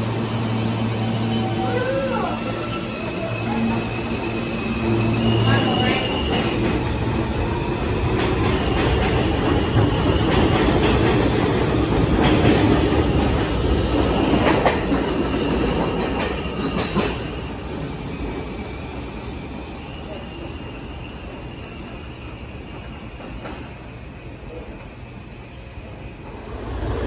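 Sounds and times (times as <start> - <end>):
subway train wheels clacking: 0.0 - 27.0.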